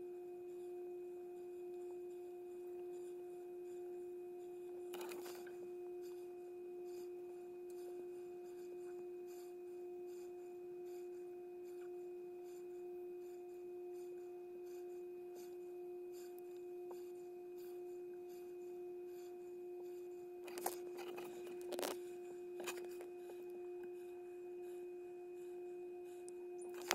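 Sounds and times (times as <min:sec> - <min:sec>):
steady hum-like tone: 0:00.0 - 0:26.9.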